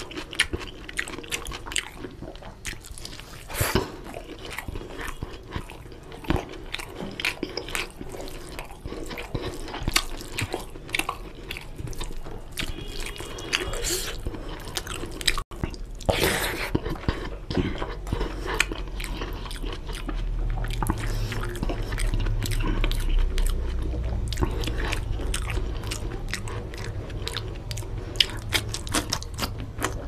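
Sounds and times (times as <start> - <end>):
wet chewing and mouth smacks: 0.0 - 30.0.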